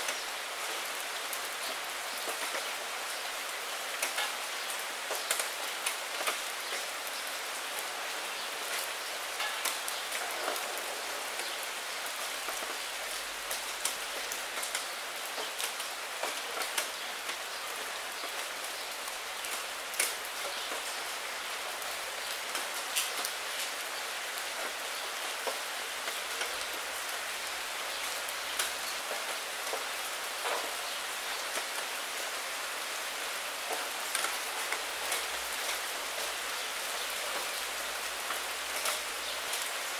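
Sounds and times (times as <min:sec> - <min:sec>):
rain drops splatting on leaves: 0:00.0 - 0:39.9
rain falling on a puddle: 0:00.0 - 0:39.9.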